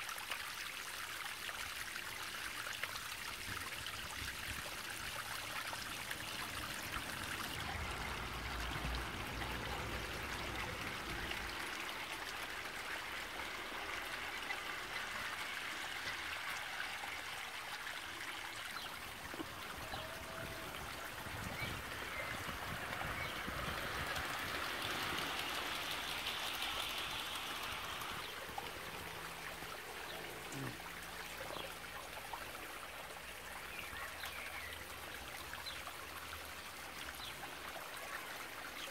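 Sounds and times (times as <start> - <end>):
running water trickling: 0.0 - 38.9.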